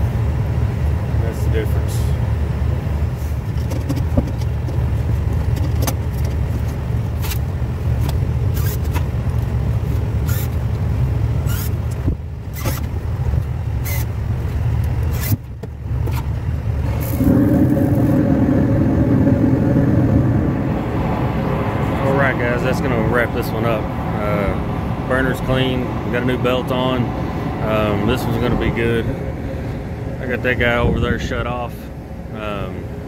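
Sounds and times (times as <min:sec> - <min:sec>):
low machinery rumble: 0:00.0 - 0:33.0
steady hum: 0:06.2 - 0:33.0.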